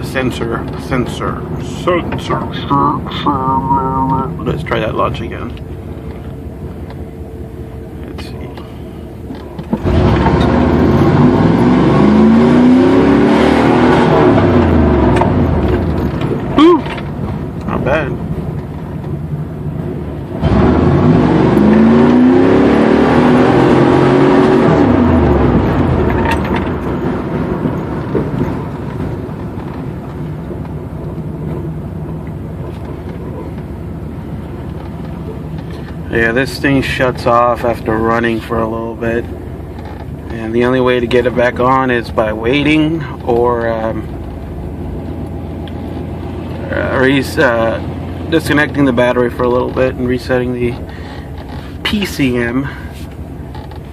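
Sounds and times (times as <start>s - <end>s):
car engine at full throttle: 0.0s - 53.9s.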